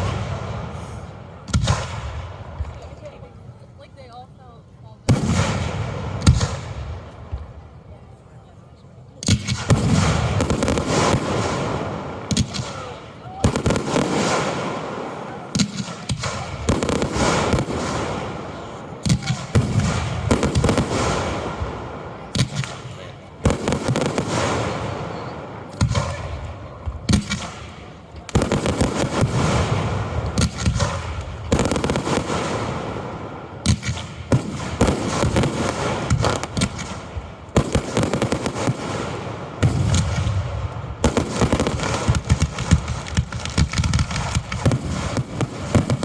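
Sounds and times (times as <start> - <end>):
fireworks bangs: 0.0 - 4.1, 5.0 - 7.8, 9.2 - 46.0.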